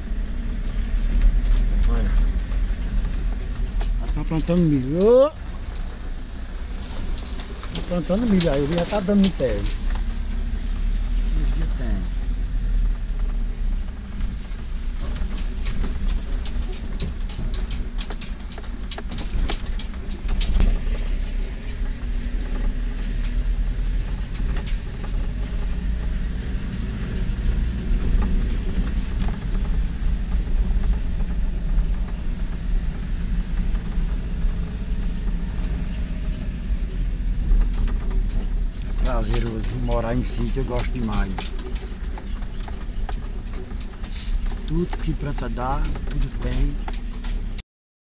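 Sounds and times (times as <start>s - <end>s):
rattles and knocks: 0.0s - 47.6s
vehicle engine and road rumble: 0.0s - 47.6s.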